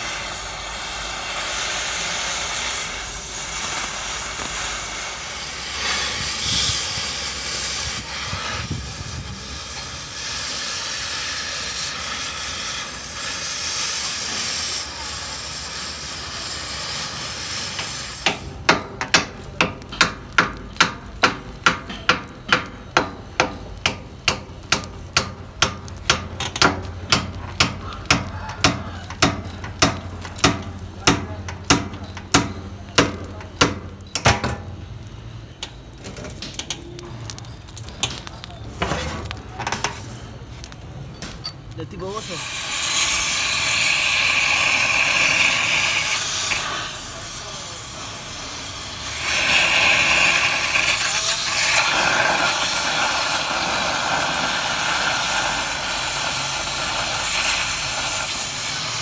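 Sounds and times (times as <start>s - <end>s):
cutting torch hissing: 0.0s - 59.0s.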